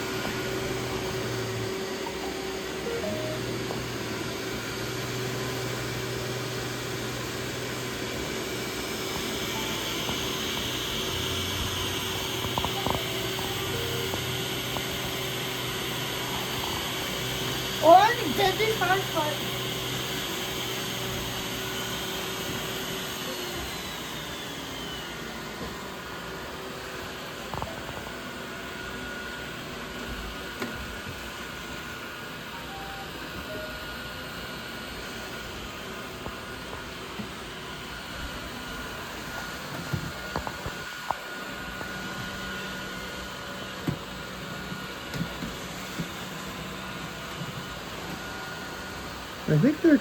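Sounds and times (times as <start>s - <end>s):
robot vacuums whirring: 0.0s - 50.0s.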